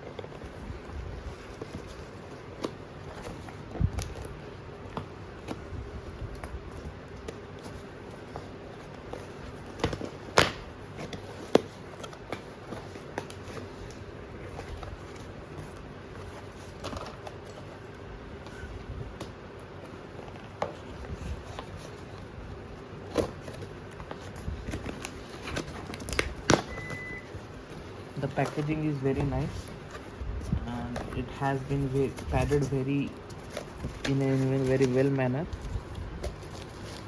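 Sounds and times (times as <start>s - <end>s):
steady low hum: 0.0s - 37.0s
packaging crackling and clicking: 0.1s - 18.0s, 18.6s - 37.0s.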